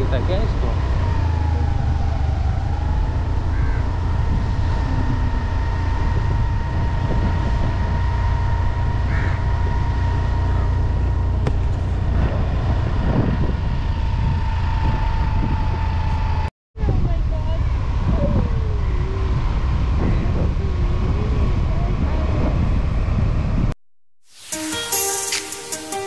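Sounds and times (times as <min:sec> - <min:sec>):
motorcycle engine rumble: 0:00.0 - 0:23.8
wind on microphone: 0:00.8 - 0:23.8.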